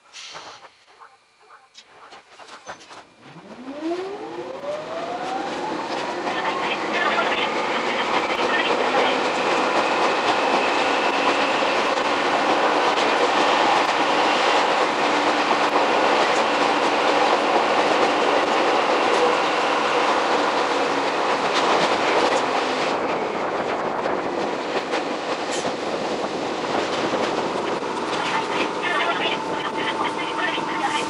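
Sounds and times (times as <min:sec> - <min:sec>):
train wheels rolling: 0:00.0 - 0:31.0.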